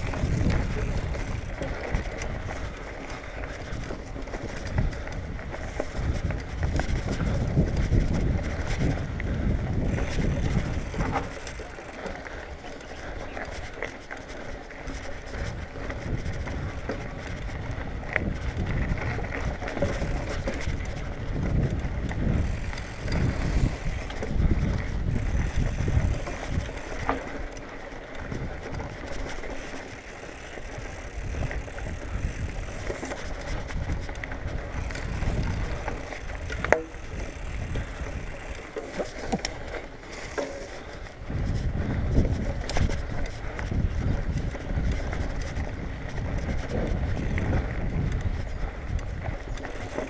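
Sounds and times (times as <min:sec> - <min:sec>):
bike rattling over bumps: 0:00.0 - 0:50.0
bike tyre rumble: 0:00.0 - 0:50.0
wind on camera: 0:00.0 - 0:50.0.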